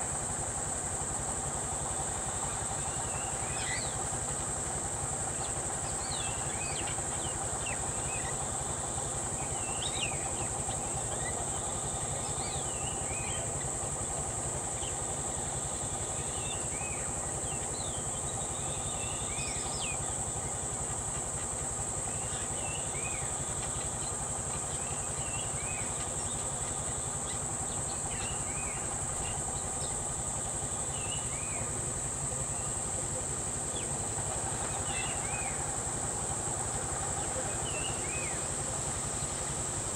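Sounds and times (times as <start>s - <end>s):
vehicle engine idling: 0.0s - 39.9s
high-pitched insect drone: 1.4s - 39.9s.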